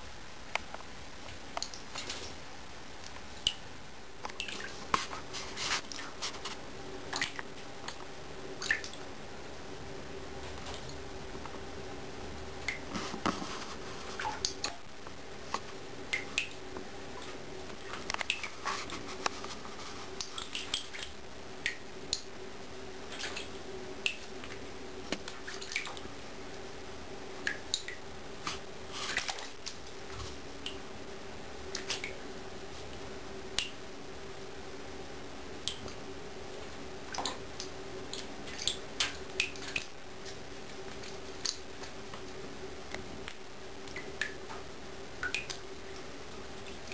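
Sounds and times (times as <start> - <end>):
steady hum: 0.0 - 46.9.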